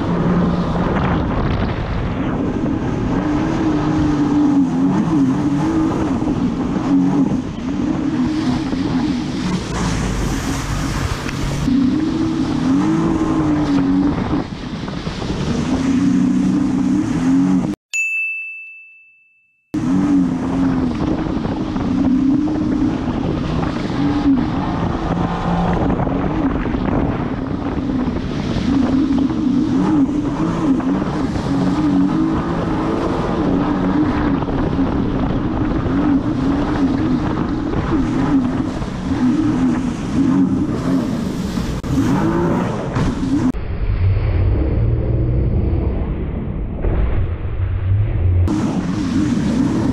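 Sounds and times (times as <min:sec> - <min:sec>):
jet ski engine running: 0:00.0 - 0:17.8, 0:19.8 - 0:43.6, 0:48.5 - 0:49.9
rush of wind and water: 0:00.0 - 0:17.8, 0:19.8 - 0:49.9.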